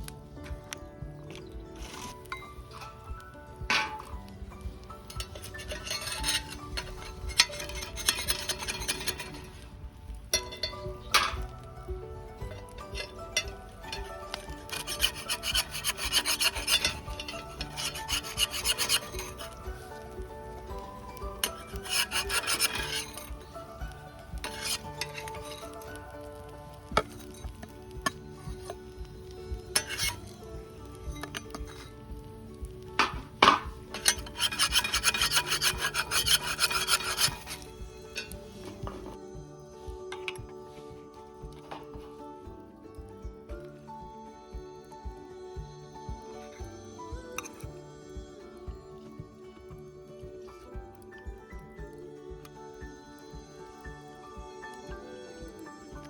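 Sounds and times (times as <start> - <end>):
utensil scraping rhythmically: 0.0 - 42.3, 44.8 - 56.0.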